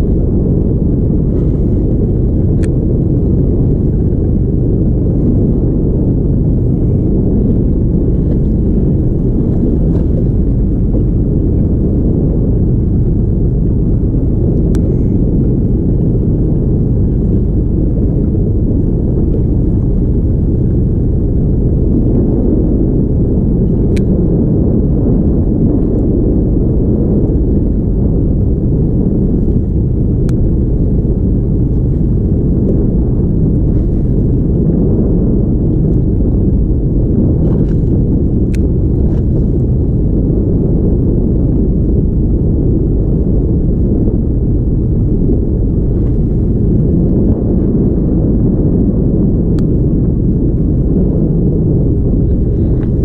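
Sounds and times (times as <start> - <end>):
boat engine low rumble: 0.0 - 53.0.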